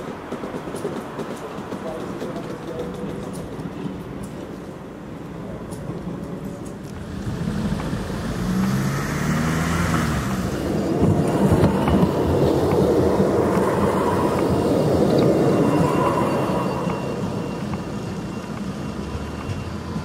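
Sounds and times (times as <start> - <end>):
tram motor hum: 0.0 - 20.0
wheels rumbling on rails: 0.0 - 20.0.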